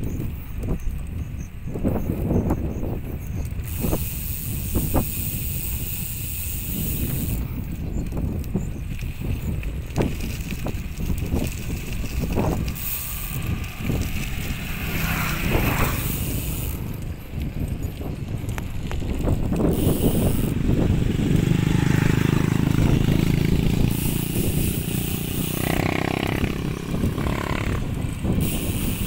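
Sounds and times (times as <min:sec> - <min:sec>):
bicycle tyres on concrete: 0:00.0 - 0:29.0
bike rattles over bumps: 0:00.0 - 0:29.0
wind buffeting microphone: 0:00.0 - 0:29.0.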